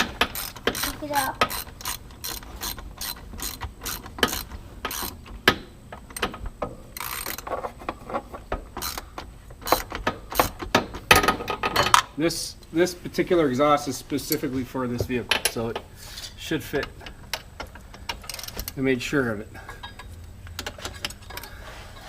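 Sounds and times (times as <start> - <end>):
hand tools clicking and knocking: 0.0 - 12.1, 14.3 - 15.9, 16.7 - 18.8, 19.6 - 22.0.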